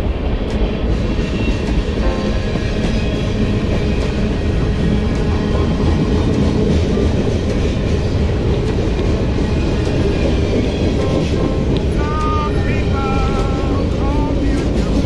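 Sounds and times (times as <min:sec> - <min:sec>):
faint rail clatter: 0:00.0 - 0:15.0
train rolling rumble: 0:00.0 - 0:15.0.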